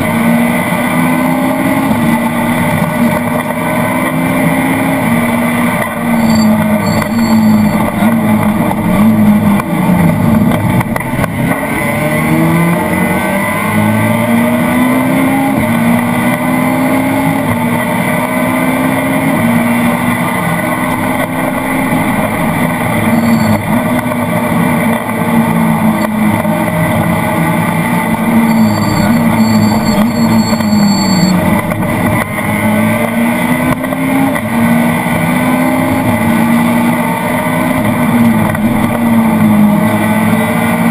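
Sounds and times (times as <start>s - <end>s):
car engine revving: 0.0s - 40.9s
road and tyre noise: 0.0s - 40.9s.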